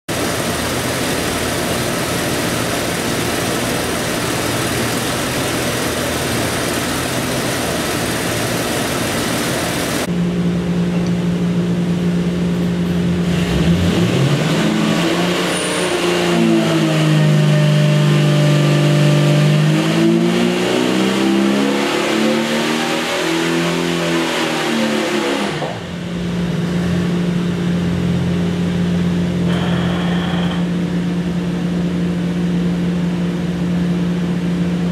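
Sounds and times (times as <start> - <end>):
engine running on dyno: 0.1 - 34.9.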